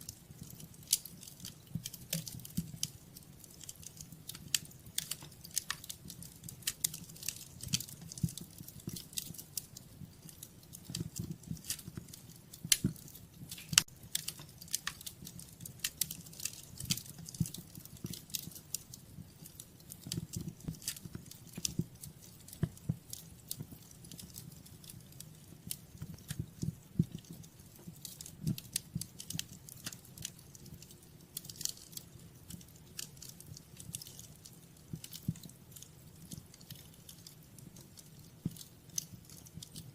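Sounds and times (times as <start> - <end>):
wood fire flames rumbling: 0.0 - 39.9
wood fire snaps and pops: 0.0 - 39.9.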